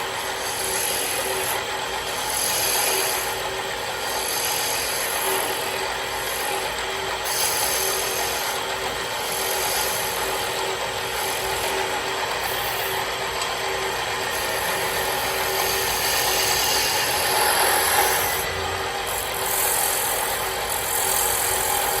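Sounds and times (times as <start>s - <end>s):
wood lathe motor hum: 0.0s - 22.0s
turning tool hissing on wood: 0.2s - 22.0s.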